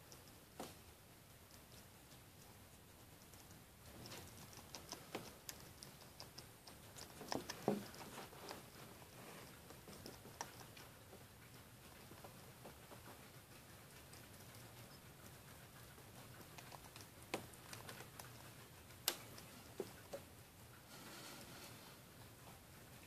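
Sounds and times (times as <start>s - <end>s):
hedgehog crunching dry kibble: 1.6s - 20.2s.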